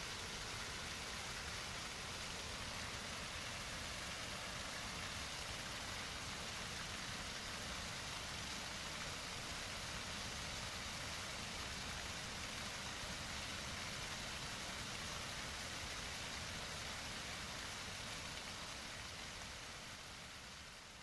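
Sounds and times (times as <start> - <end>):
rushing water hiss: 0.0 - 21.0.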